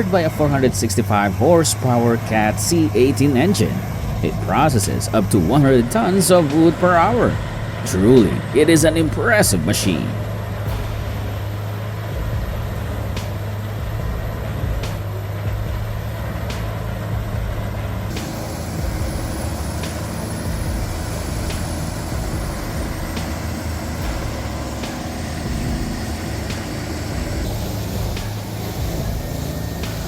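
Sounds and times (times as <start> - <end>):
heavy machinery engine humming: 0.0 - 30.0.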